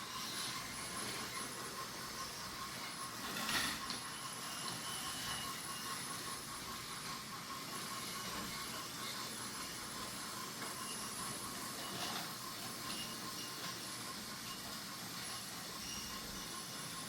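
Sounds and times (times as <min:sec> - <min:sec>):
toy train motors whirring: 0:00.0 - 0:17.0.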